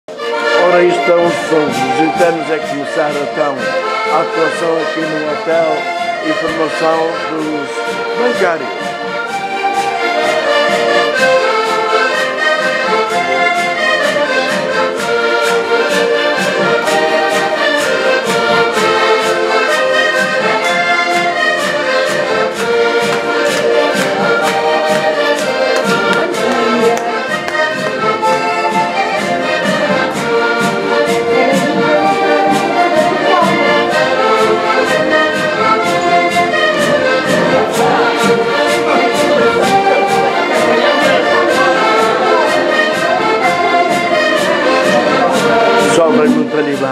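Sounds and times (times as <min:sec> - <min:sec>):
accordion ensemble playing: 0:00.1 - 0:46.9.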